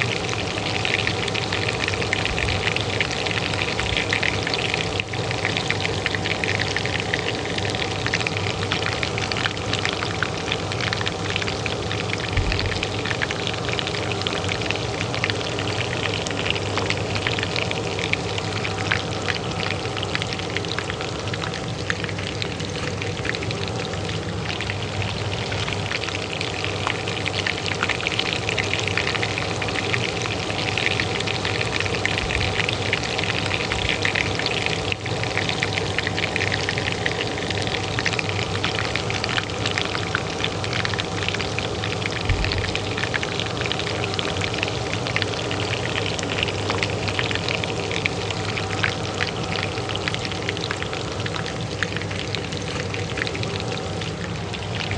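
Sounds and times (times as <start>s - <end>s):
oil frying in a pan: 0.0s - 54.9s
range hood fan hum: 0.0s - 54.9s.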